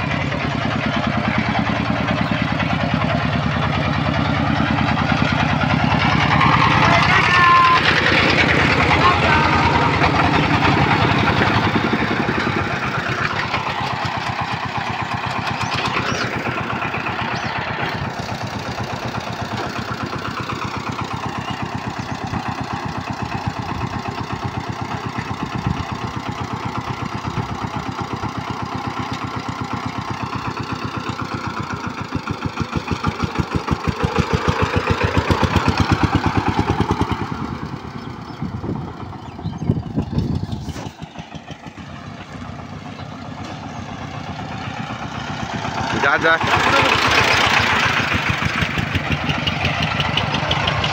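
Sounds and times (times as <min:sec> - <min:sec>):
diesel engine chugging: 0:00.0 - 0:50.9.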